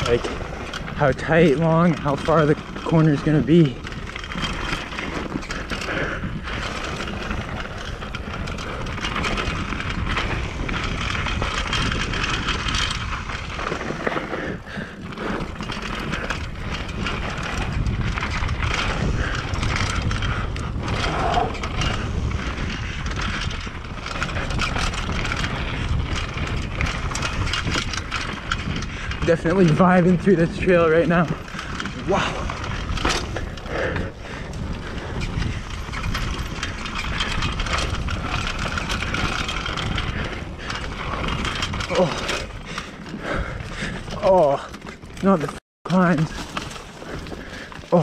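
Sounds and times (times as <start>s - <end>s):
bike rattling over bumps: 0.0s - 48.0s
tyres rumbling on dirt: 0.0s - 48.0s.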